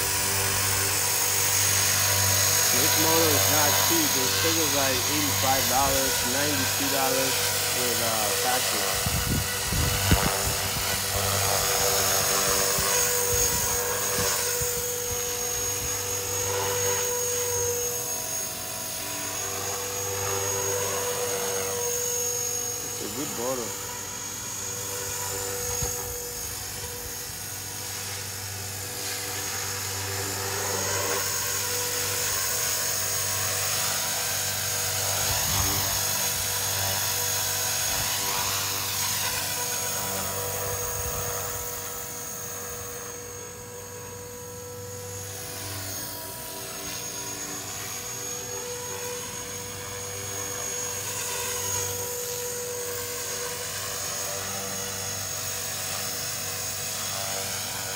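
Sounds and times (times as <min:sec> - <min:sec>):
rc helicopter motor and rotors whine: 0:00.0 - 0:57.9.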